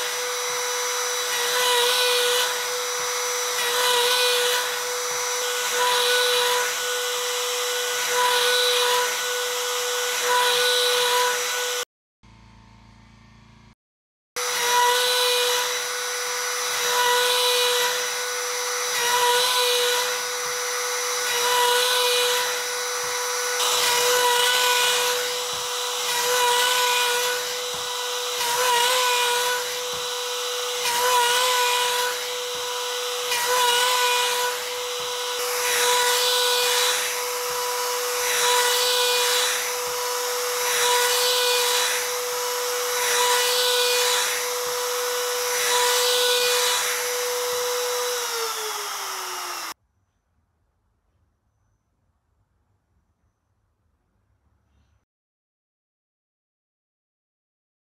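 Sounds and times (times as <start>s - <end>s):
router bit cutting wood: 0.0s - 13.8s, 14.4s - 49.8s
router whining: 0.0s - 13.8s, 14.4s - 49.8s.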